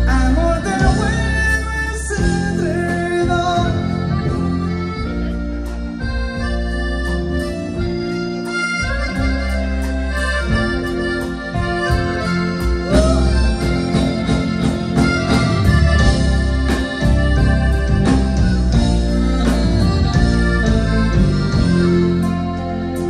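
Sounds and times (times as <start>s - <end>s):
accordion-like melody: 0.0s - 23.0s
electric bass: 0.0s - 23.0s
steady drum beat: 0.0s - 23.0s.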